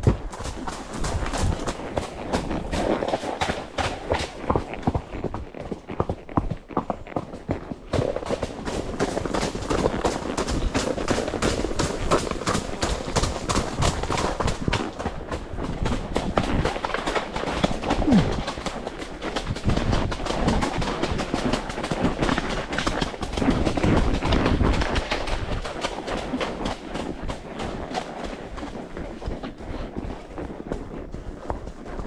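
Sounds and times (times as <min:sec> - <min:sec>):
horse hoofbeats: 0:00.0 - 0:32.0.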